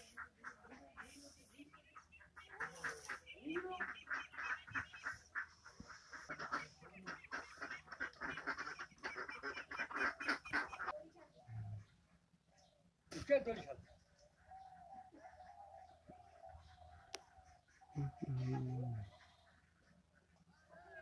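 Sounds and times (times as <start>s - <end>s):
birds chattering: 0.0s - 21.0s.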